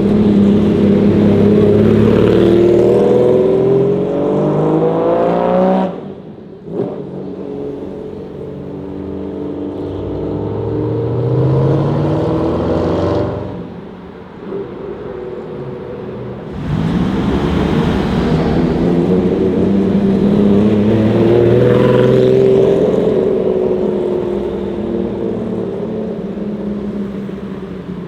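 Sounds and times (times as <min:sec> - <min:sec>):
supercar engine accelerating: 0:00.0 - 0:28.0.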